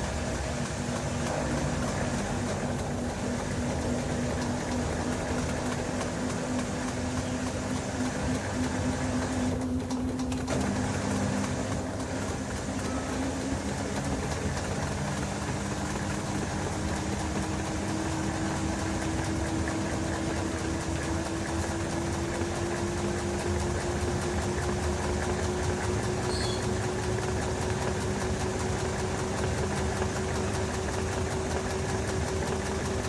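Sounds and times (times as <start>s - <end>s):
washing machine running: 0.0s - 33.0s.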